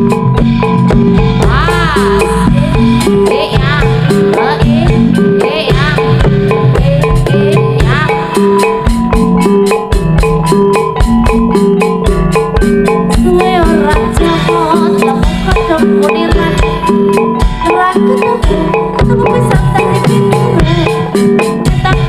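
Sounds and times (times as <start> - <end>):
bending melody line: 0.0 - 22.0
metal mallet percussion: 0.0 - 22.0
steady drum beat: 0.0 - 22.0.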